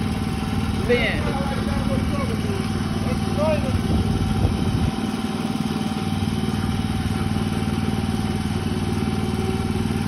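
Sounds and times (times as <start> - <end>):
small gasoline engine running: 0.0 - 10.0.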